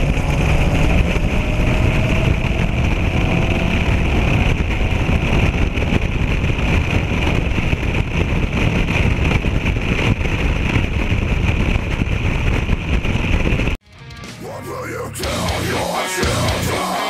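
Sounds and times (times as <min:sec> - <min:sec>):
car engine and road noise: 0:00.0 - 0:17.0
wind rush: 0:00.0 - 0:17.0.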